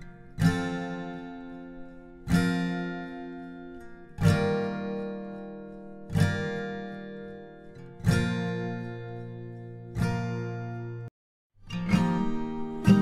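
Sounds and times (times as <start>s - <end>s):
acoustic guitar strumming slow chords: 0.0s - 13.0s.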